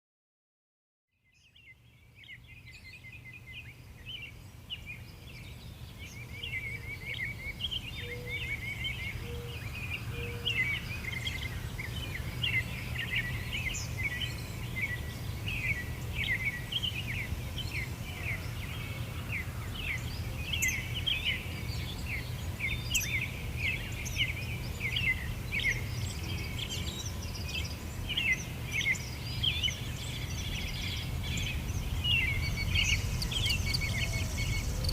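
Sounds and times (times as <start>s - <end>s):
small birds chirping: 1.2s - 34.9s.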